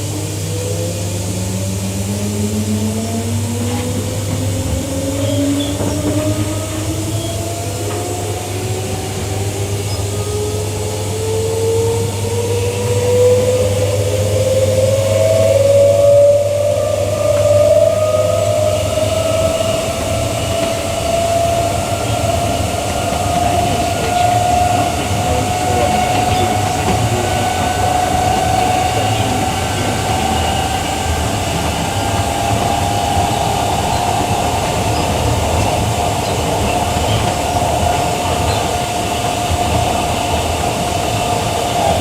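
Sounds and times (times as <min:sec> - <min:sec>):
electric train motor whine: 0:00.0 - 0:42.0.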